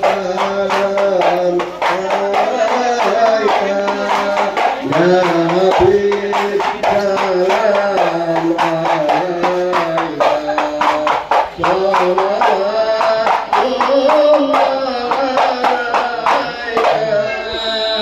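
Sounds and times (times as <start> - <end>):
person singing: 0.0 - 18.0
quick drum beat: 0.0 - 18.0.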